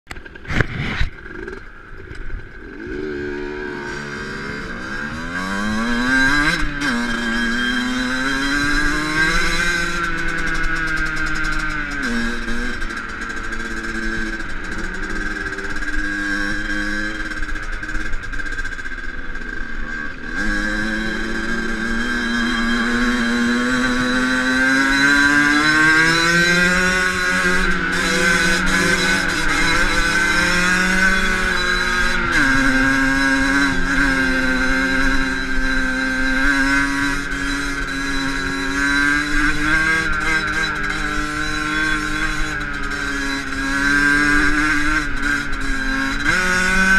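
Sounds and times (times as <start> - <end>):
two-stroke dirt bike engine: 0.1 - 46.9.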